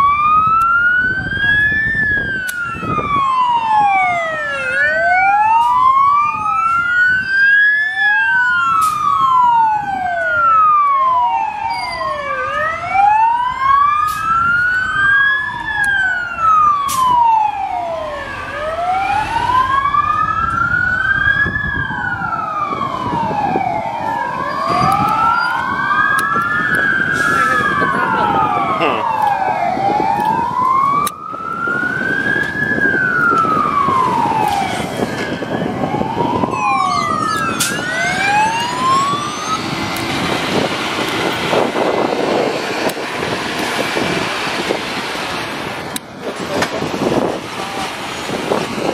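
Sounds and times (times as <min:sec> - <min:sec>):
fire engine sirens wailing: 0:00.0 - 0:48.9
truck engines rumbling: 0:00.0 - 0:48.9.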